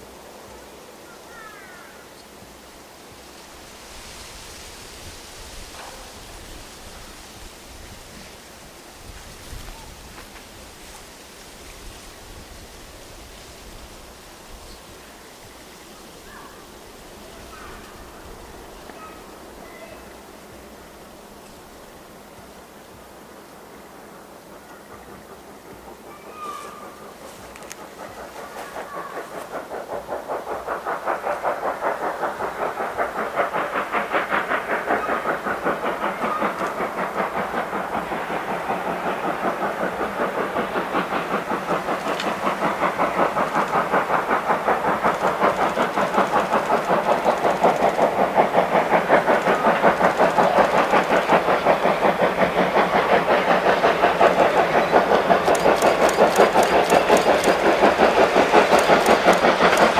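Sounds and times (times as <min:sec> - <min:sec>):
steam locomotive exhaust chuffing: 0:01.8 - 0:59.9.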